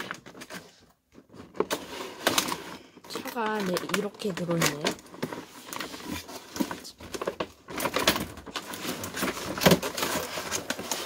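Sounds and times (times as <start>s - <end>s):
cardboard and plastic packaging handled: 0.0s - 11.0s.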